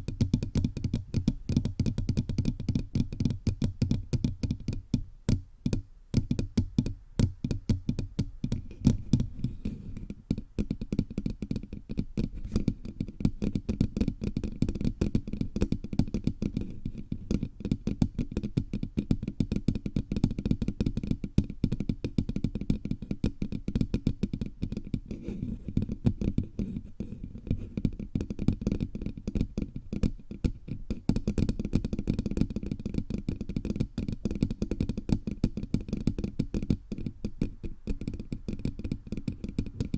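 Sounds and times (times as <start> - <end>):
fingers tapping on microphone: 0.0 - 39.9.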